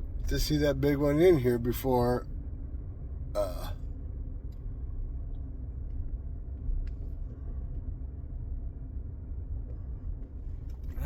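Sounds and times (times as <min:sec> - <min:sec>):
vehicle rumble inside cab: 0:00.0 - 0:11.0.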